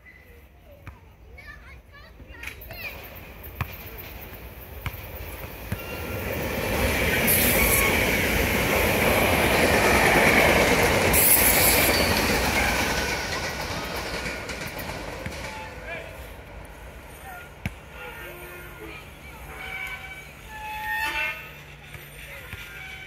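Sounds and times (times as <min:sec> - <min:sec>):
train passing: 0:01.7 - 0:23.0.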